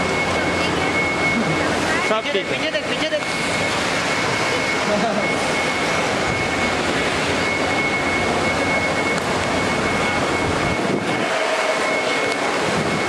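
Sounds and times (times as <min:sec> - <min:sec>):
high-pitched whine: 0:00.0 - 0:13.0
rushing background noise: 0:00.0 - 0:13.0.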